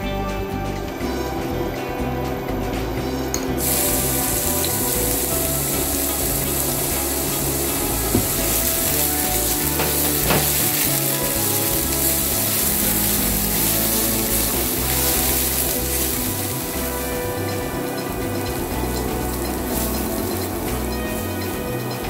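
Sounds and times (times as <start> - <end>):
food sizzling in oil: 3.6 - 22.0.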